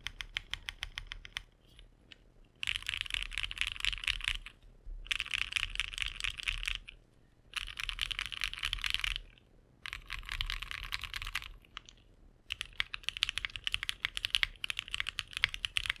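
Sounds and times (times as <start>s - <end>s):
keyboard typing: 0.0s - 1.5s, 2.6s - 4.5s, 5.1s - 16.0s.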